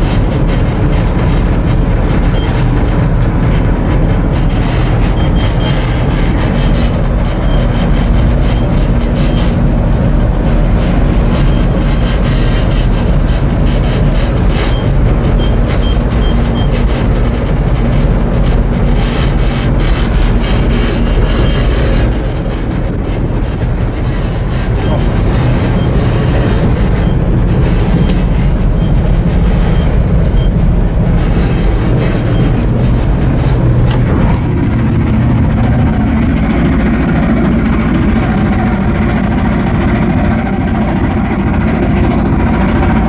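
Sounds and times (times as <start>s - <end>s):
ship diesel engine rumble: 0.0s - 43.0s
steady hum: 0.0s - 43.0s.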